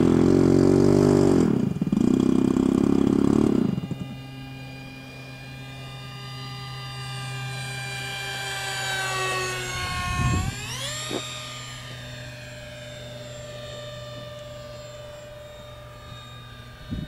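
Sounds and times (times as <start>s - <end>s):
model airplane motors whining: 0.0s - 17.0s.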